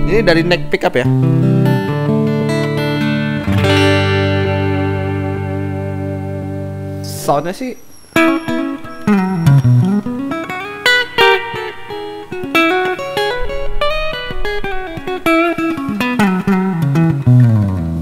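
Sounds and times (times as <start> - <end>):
clean electric guitar: 0.0 - 18.0.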